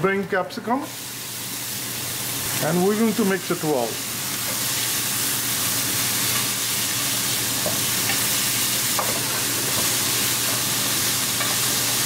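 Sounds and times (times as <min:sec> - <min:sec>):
vegetables sizzling in oil: 0:00.6 - 0:12.0.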